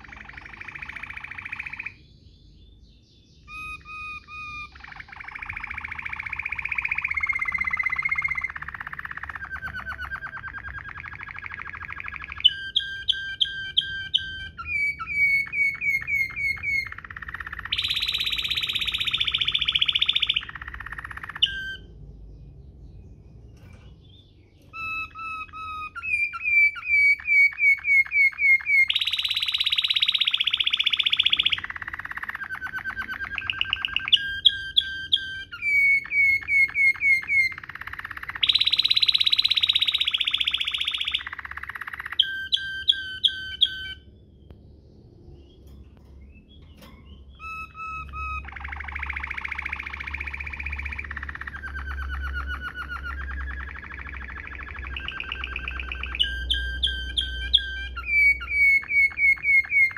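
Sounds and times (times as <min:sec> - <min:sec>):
canary singing rolling song: 0:00.0 - 0:59.9.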